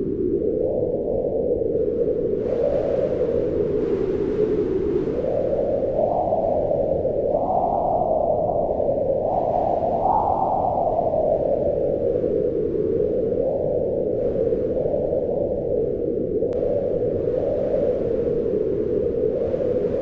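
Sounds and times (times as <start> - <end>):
wind howling: 0.0 - 20.0.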